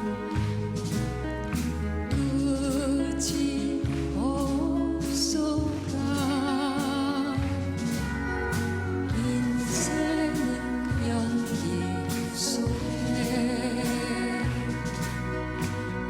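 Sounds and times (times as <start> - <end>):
person singing a song: 0.0 - 16.0.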